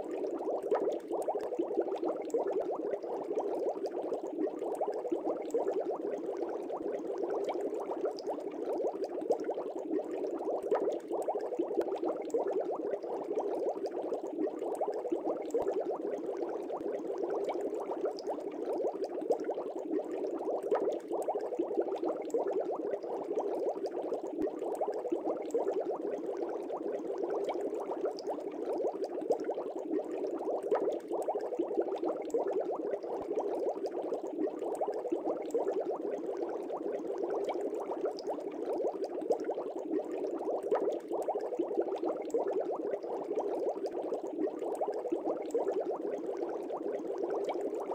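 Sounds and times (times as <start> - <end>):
water bubbling: 0.0 - 47.9.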